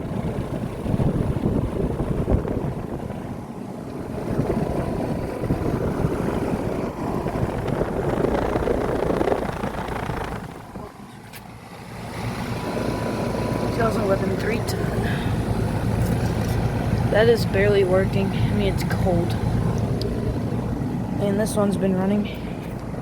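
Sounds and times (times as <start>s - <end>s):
air conditioner fan whoosh: 0.0s - 23.0s
low compressor hum: 0.0s - 23.0s.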